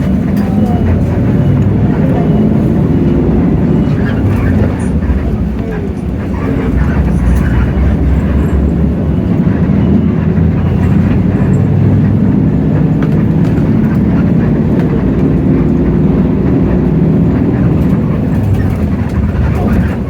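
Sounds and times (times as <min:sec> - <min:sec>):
bus diesel engine running: 0:00.0 - 0:20.0
road and cabin noise: 0:00.0 - 0:20.0.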